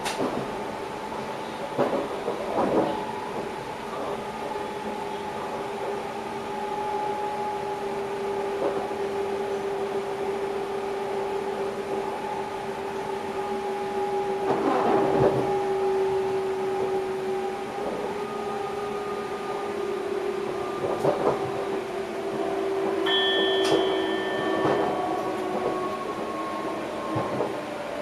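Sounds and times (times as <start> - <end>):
train running noise: 0.0 - 28.0
train traction whine: 0.0 - 28.0.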